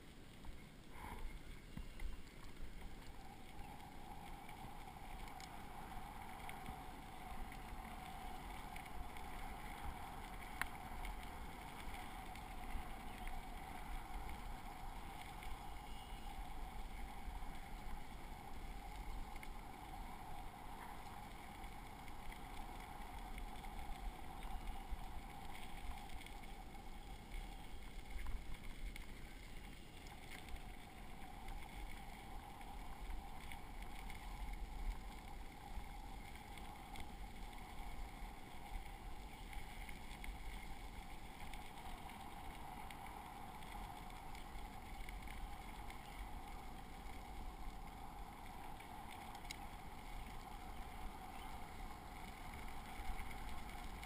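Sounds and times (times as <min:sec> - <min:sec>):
faint steady hum: 0:00.0 - 0:54.0
bicycle tyres rumbling on gravel: 0:00.9 - 0:54.0.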